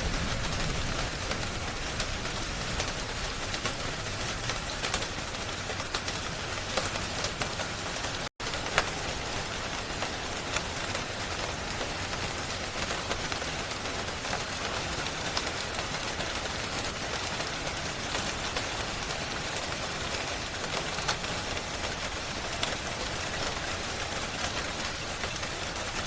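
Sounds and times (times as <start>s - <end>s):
steady rain hiss: 0.0s - 26.0s
wood fire crackling: 0.0s - 26.0s.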